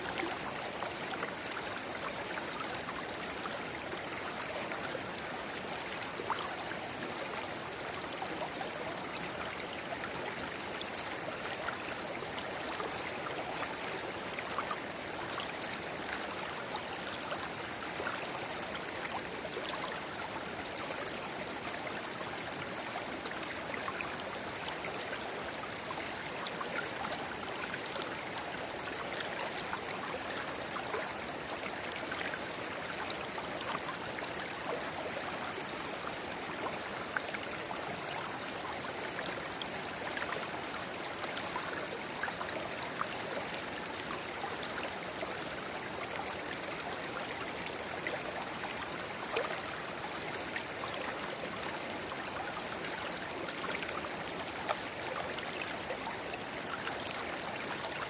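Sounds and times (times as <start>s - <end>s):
river babbling: 0.0s - 58.0s
water splashes and trickles: 0.0s - 58.0s.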